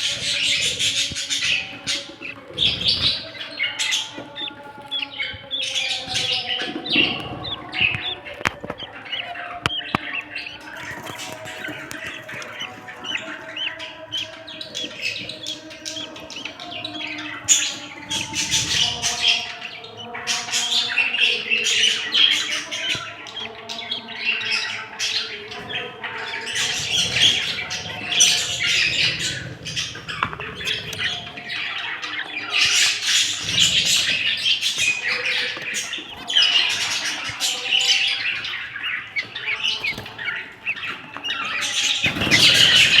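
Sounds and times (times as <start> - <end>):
budgerigars chattering: 0.0 - 43.0.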